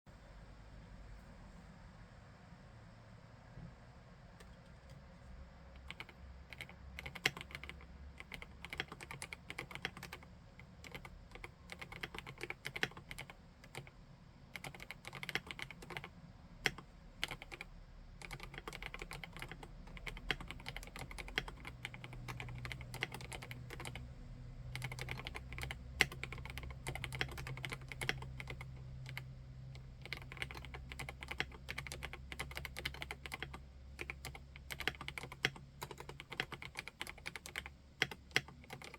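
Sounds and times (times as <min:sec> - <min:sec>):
typing on mechanical keyboard: 0:05.8 - 0:13.9, 0:14.5 - 0:24.1, 0:24.7 - 0:38.9.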